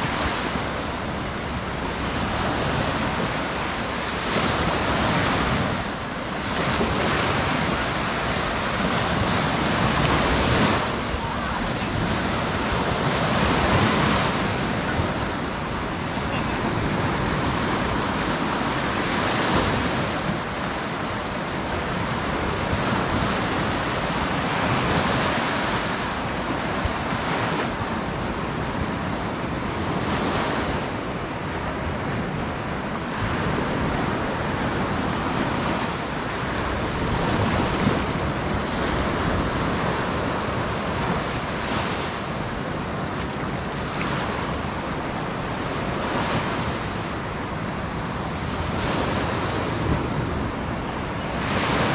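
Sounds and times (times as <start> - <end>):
sea waves washing onto beach: 0.0 - 51.9.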